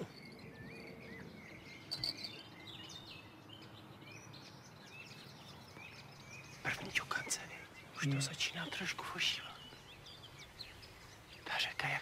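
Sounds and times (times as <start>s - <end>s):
faint songbirds chirping: 0.0s - 12.0s.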